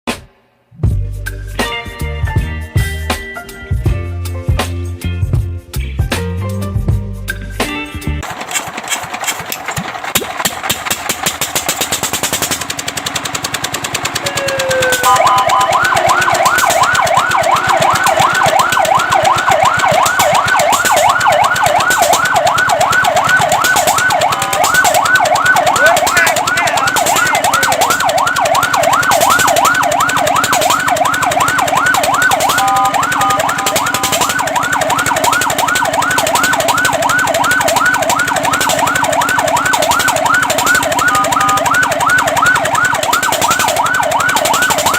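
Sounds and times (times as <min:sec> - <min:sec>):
fast even pulsing: 0:08.2 - 0:44.9
fire truck siren yelping: 0:08.2 - 0:44.9.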